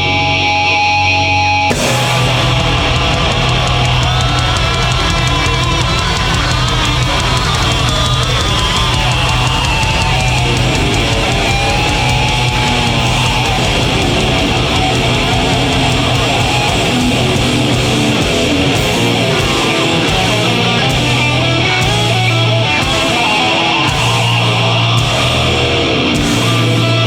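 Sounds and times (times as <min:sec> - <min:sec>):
heavy metal band playing: 0:00.0 - 0:27.0.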